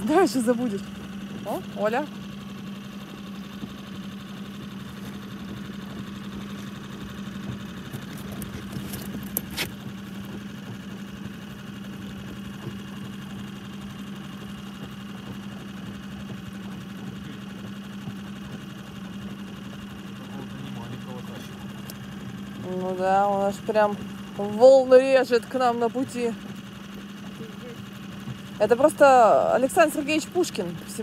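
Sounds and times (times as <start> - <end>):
outboard motor humming: 0.0 - 31.0.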